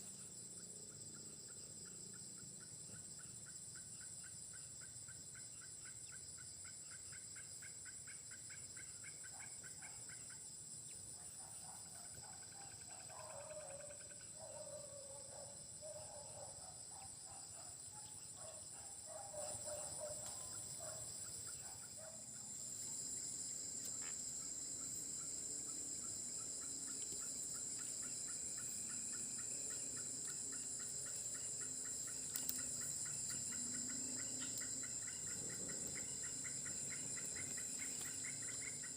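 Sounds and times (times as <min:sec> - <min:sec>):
insect pulsing trill: 0:00.0 - 0:38.9
insects buzzing shrilly: 0:06.6 - 0:38.9.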